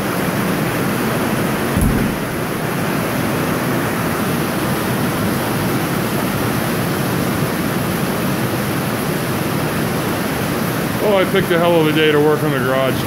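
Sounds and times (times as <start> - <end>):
heavy rain on a metal roof: 0.0 - 13.0.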